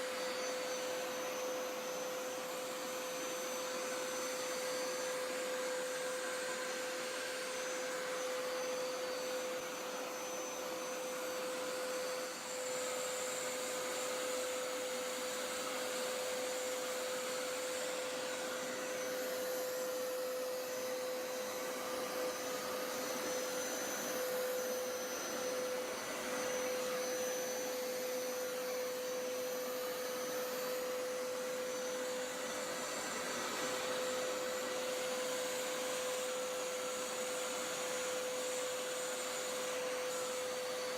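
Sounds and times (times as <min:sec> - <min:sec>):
carpet cleaner motor whining: 0:00.0 - 0:40.9.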